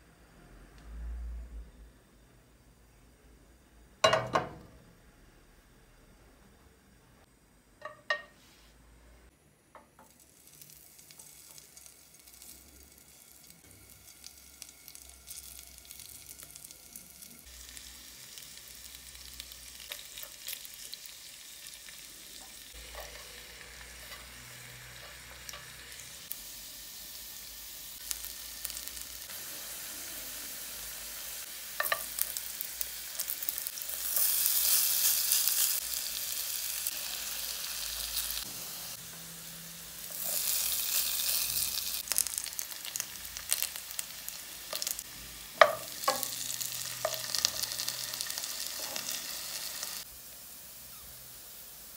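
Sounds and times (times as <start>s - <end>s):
hot oil sizzling in a pan: 9.7s - 51.9s.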